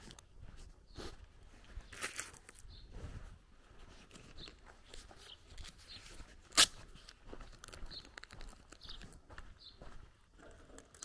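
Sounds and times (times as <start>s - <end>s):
footsteps rustling through grass: 0.0s - 10.0s.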